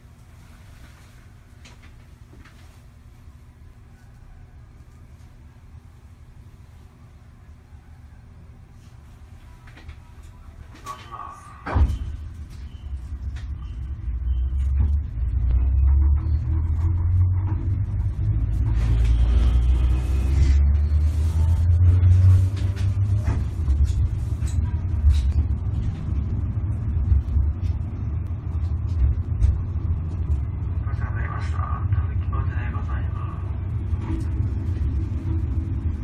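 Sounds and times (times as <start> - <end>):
streetcar wheels rumbling: 0.0 - 36.0.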